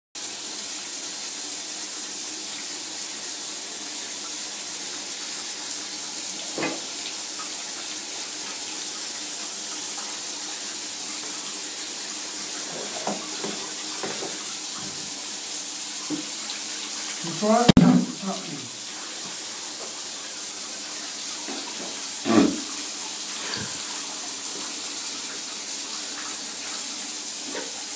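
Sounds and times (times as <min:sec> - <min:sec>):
shower water spraying into bathtub: 0:00.2 - 0:27.9.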